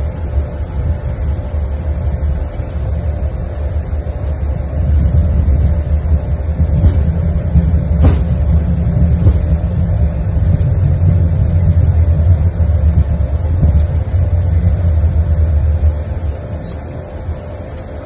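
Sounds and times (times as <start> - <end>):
airplane landing rumble: 0.0 - 18.0
faint steady hum: 0.0 - 18.0.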